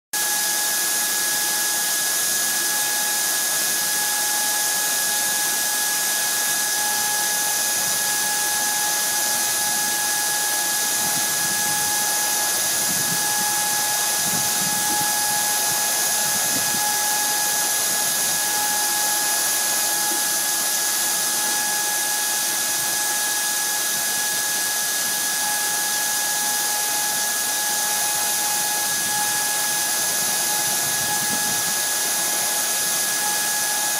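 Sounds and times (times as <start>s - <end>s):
mill spindle high whine: 0.2s - 33.9s.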